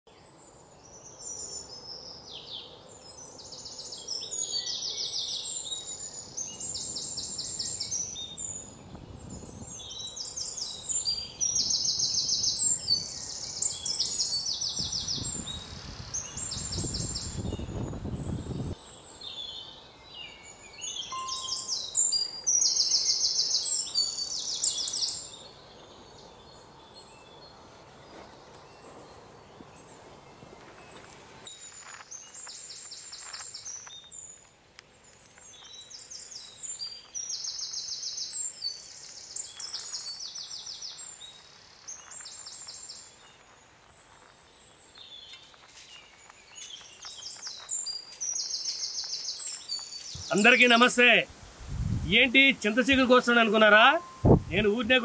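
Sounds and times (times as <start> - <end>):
birds singing high trills: 0.2 - 51.2, 52.1 - 55.0.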